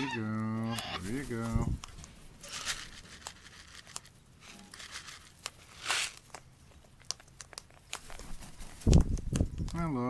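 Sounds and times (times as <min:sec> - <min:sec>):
beaks crunching on food: 0:00.0 - 0:10.0.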